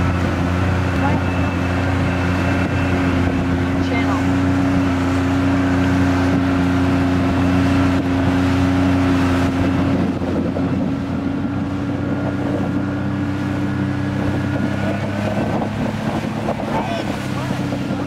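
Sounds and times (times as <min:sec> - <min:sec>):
outboard motor drone: 0:00.0 - 0:18.0
water rushing past: 0:00.0 - 0:18.0
wind rushing: 0:01.6 - 0:18.0.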